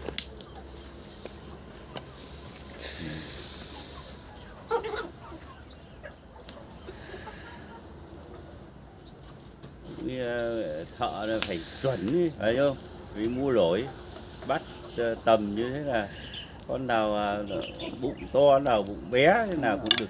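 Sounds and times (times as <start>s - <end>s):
burning straw hissing and crackling: 0.0s - 20.0s.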